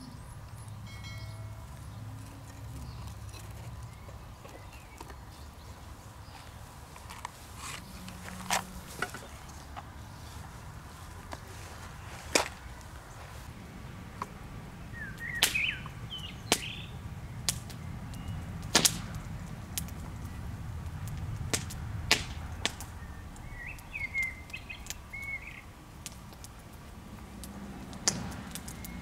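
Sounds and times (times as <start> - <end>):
small birds chirping: 0.0 - 29.0
dry kindling snapping: 1.8 - 13.5, 15.0 - 29.0.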